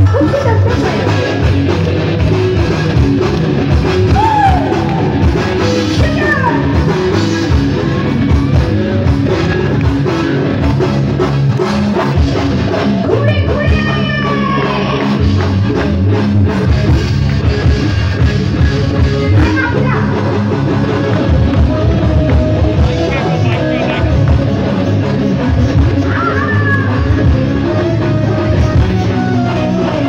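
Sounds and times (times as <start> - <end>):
live band music: 0.0 - 30.0.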